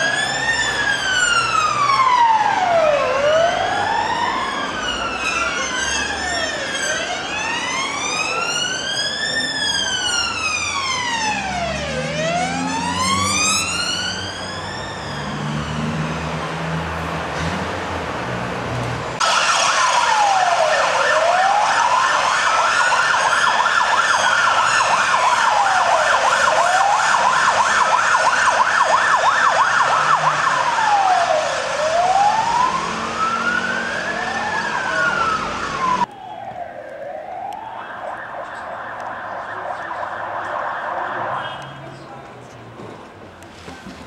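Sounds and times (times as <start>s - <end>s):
siren yelping: 0.0s - 16.4s, 19.2s - 41.7s
siren wailing: 0.0s - 16.8s, 19.2s - 41.8s.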